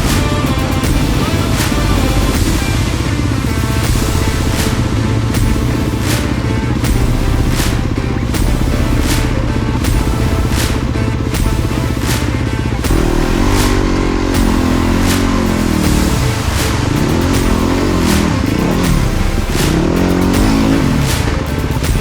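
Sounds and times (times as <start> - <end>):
background music with steady beat: 0.0 - 22.0
dirt bike engine revving: 0.0 - 22.0.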